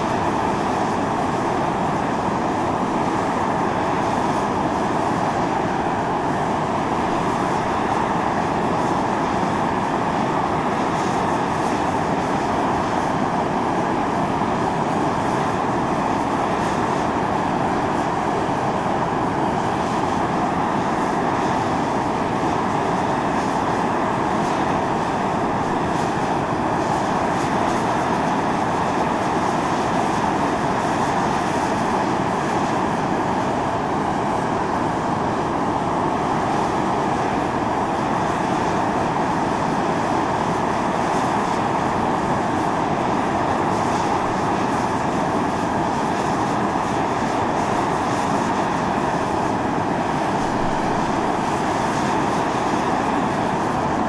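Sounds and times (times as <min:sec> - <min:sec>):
steam venting hiss and roar: 0:00.0 - 0:54.0.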